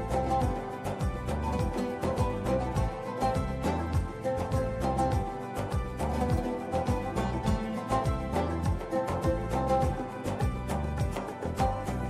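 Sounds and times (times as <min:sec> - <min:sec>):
deep kick drum: 0:00.0 - 0:11.8
background music with steady beat: 0:00.0 - 0:12.0.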